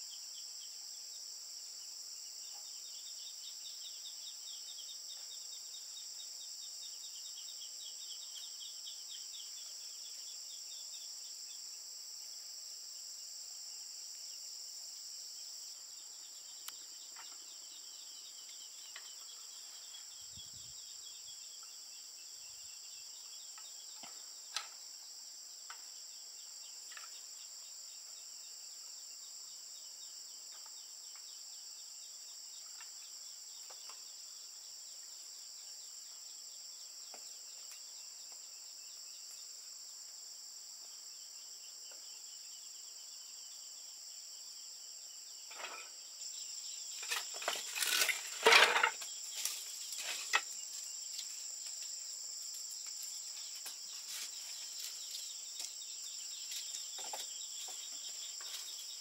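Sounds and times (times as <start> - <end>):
insects droning: 0.0 - 59.0
rapid pulsing insect trill: 0.0 - 59.0.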